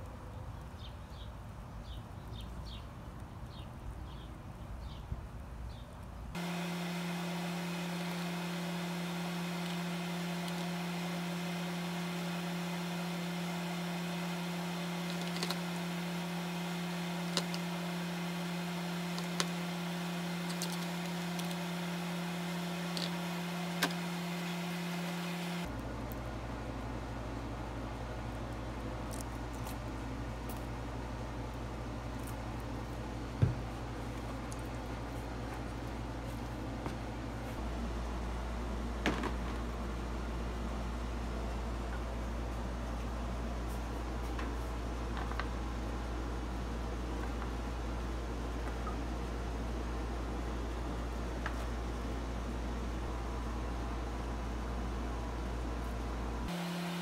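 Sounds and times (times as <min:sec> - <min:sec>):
kitchen appliance hum: 0:06.3 - 0:57.0.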